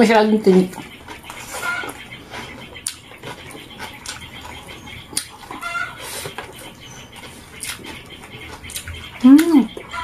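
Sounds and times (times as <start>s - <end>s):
chicken clucking: 0.0s - 10.0s
people eating with hands: 0.0s - 10.0s.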